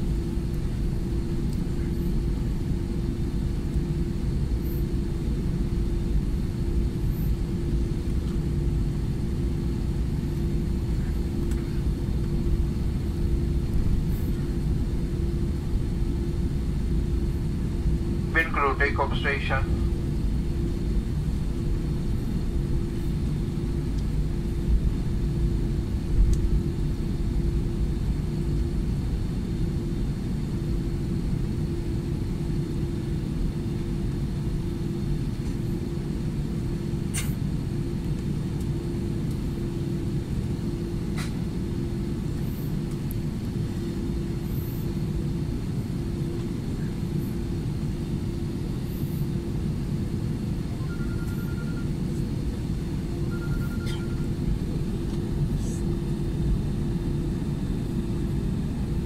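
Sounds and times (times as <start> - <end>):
aircraft cabin low rumble: 0.0 - 59.0
constant hum: 0.0 - 59.0.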